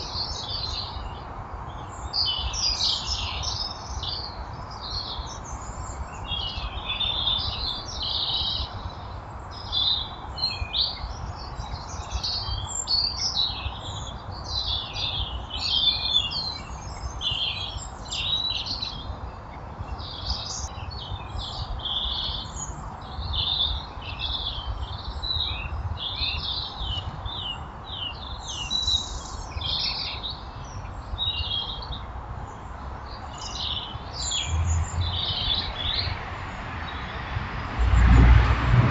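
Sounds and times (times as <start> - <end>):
small birds chirping: 0.0 - 37.3.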